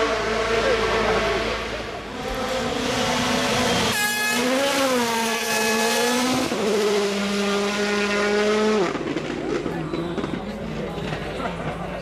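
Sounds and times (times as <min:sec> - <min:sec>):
rally car engine at high revs: 0:00.0 - 0:11.8.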